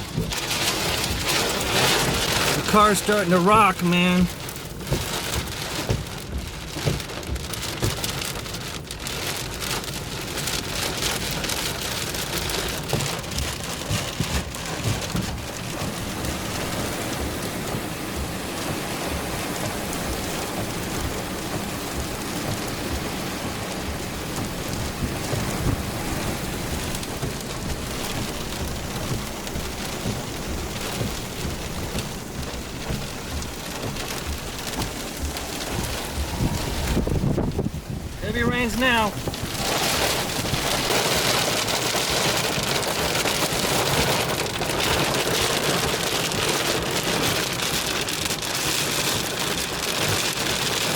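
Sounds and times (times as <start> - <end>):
heavy rain on car roof: 0.0 - 50.9
wind gusts buffeting car: 0.0 - 50.9.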